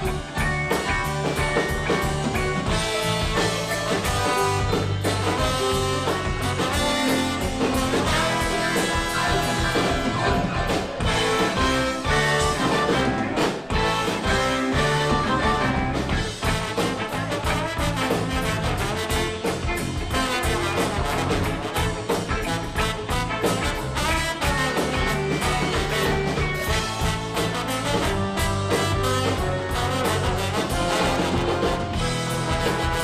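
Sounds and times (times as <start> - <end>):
live band playing up-tempo song: 0.0 - 33.0
trombone: 0.0 - 33.0.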